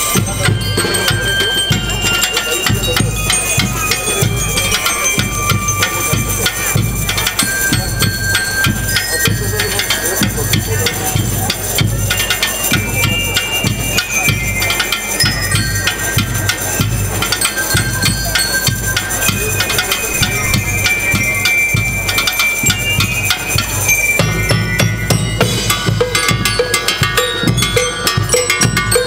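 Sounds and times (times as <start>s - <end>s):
drums steady beat: 0.0s - 29.0s
high melody: 0.0s - 29.0s.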